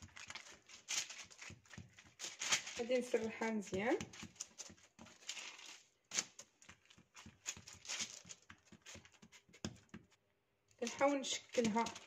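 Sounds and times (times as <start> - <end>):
paper crinkling: 0.0 - 10.1, 10.8 - 12.0
hands patting dough: 0.0 - 12.0.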